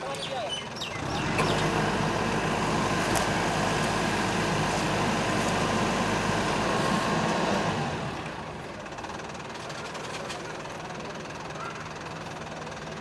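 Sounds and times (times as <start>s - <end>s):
heavy engine running: 0.8s - 13.0s.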